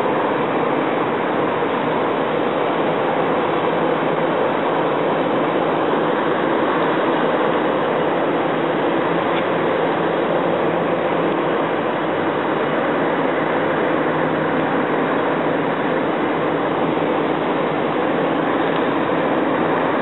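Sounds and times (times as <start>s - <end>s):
distant diesel engine rumble: 0.0s - 20.0s.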